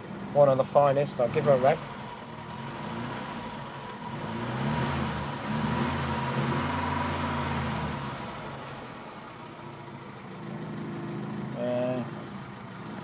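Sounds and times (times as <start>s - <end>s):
car engine revving: 0.6s - 13.0s.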